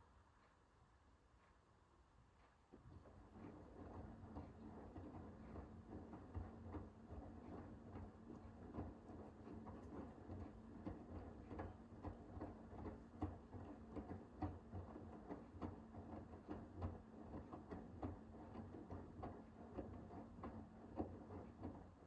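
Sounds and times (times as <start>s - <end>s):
washing machine motor hum: 2.4s - 22.0s.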